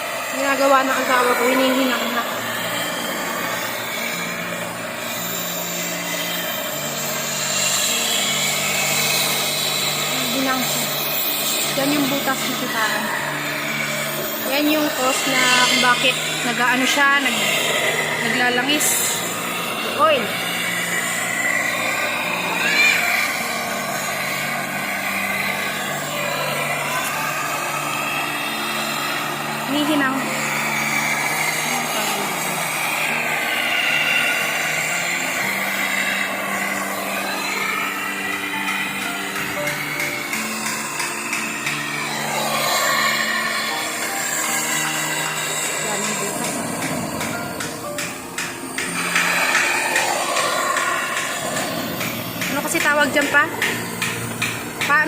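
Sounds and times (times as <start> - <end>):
gas torch flame hissing: 0.0 - 55.0
low hum: 0.0 - 55.0.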